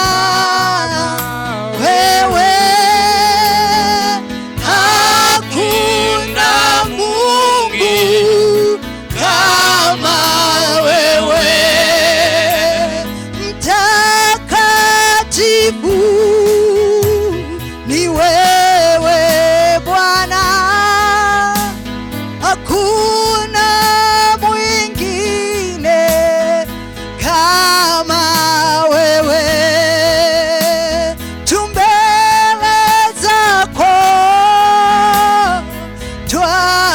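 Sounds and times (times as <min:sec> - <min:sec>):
bass accompaniment: 0:00.0 - 0:36.9
person singing with vibrato: 0:00.0 - 0:36.9.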